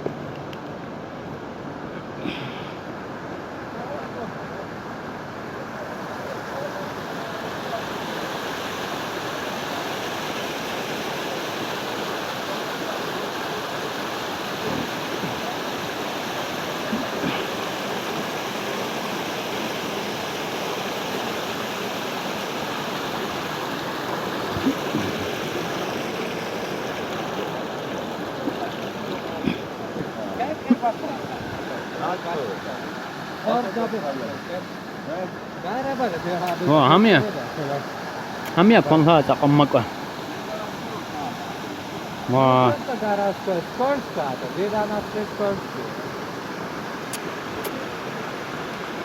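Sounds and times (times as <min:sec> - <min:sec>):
river water rushing: 0:00.1 - 0:49.0.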